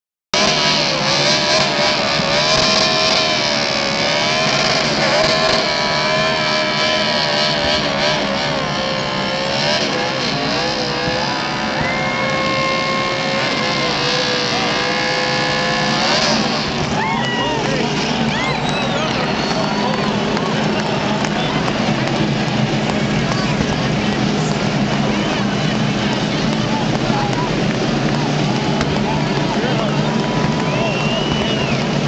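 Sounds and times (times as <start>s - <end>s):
race car engine revving: 0.4s - 32.0s.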